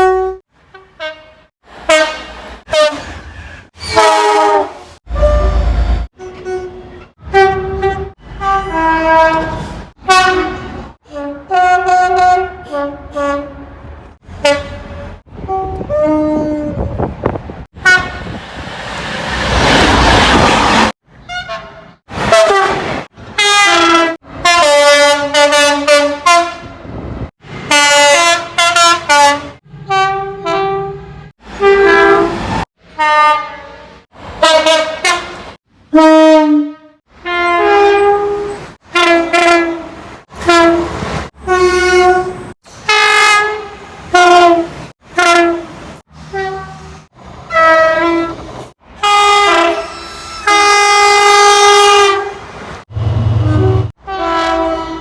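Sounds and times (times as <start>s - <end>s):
two-tone train horn blasts: 0.0s - 3.2s, 3.8s - 17.0s, 17.8s - 18.4s, 21.2s - 27.0s, 27.7s - 55.0s
passing train rush: 0.0s - 55.0s.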